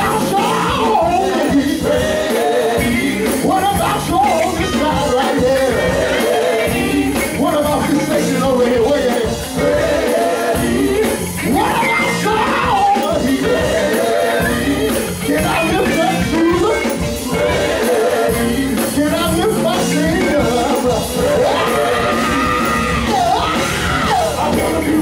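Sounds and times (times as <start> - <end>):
drum kit: 0.0 - 25.0
electric bass: 0.0 - 25.0
gospel group singing: 0.0 - 25.0
keyboard: 0.0 - 25.0.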